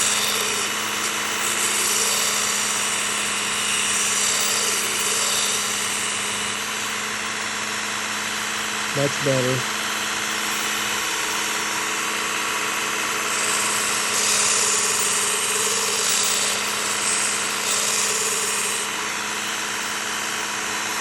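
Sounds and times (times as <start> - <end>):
belt sharpener motor hum: 0.0 - 21.0
blade grinding on belt: 0.0 - 21.0.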